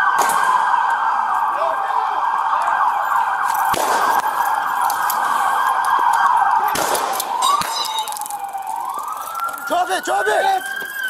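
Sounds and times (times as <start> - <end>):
police siren: 0.0 - 11.0.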